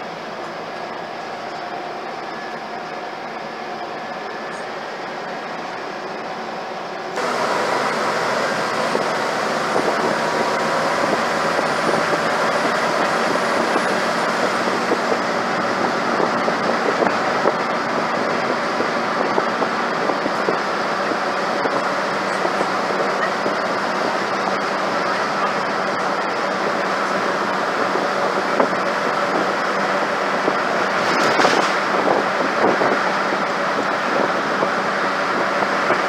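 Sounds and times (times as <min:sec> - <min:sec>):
bus engine and road noise: 0:00.0 - 0:36.0.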